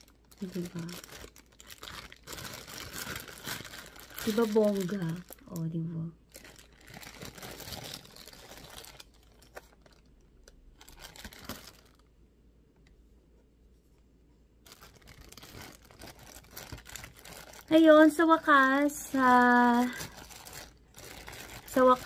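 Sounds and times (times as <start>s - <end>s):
plastic wrapping crinkling and tearing: 0.0s - 12.1s, 14.6s - 22.0s.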